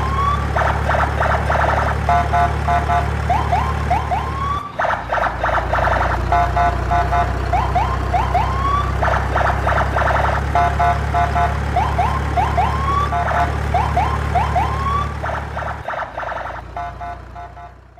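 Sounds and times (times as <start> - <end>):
electronic siren whoops and beeps: 0.0 - 17.8.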